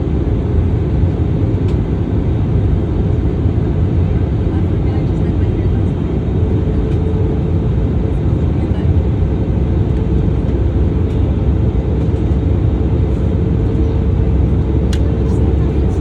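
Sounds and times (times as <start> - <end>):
jet cabin engine rumble: 0.0 - 16.0.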